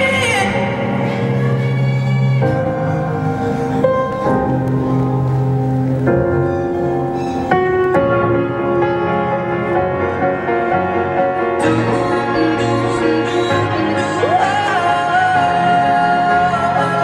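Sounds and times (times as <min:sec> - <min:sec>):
slow instrumental music: 0:00.0 - 0:17.0.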